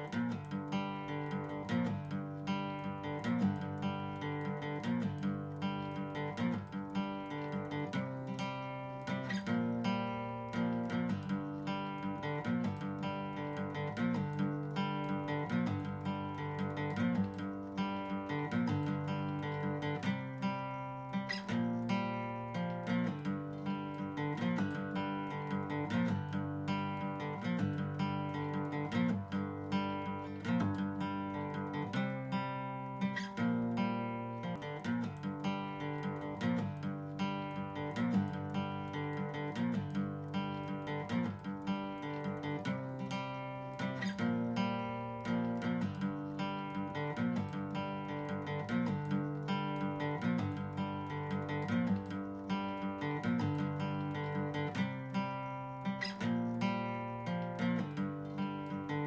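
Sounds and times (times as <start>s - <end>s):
strummed acoustic guitar: 0.0s - 59.0s.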